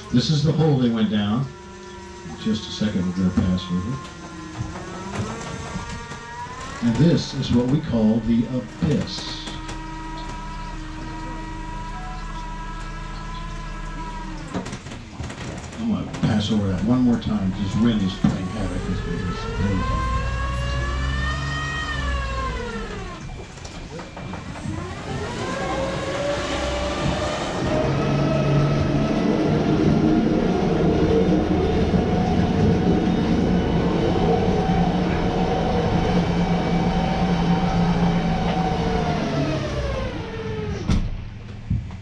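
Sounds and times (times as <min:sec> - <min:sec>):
boat motor whining: 0:00.0 - 0:42.0.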